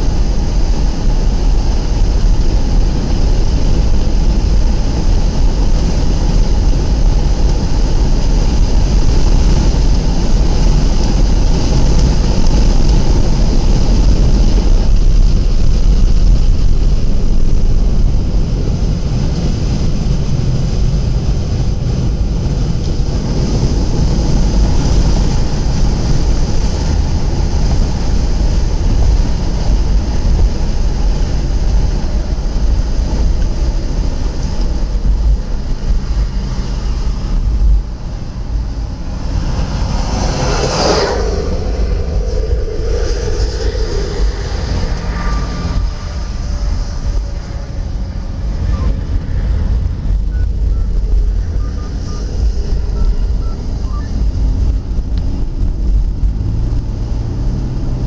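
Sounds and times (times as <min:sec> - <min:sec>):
car interior road noise: 0:00.0 - 0:58.0.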